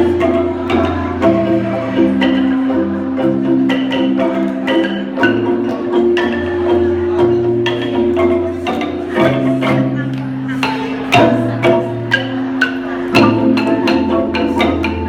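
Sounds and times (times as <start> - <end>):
wooden bars struck: 0.0 - 15.0.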